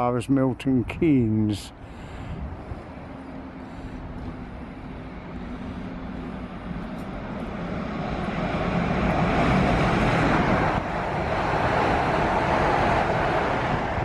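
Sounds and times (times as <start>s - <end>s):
train running through station: 0.0s - 14.0s.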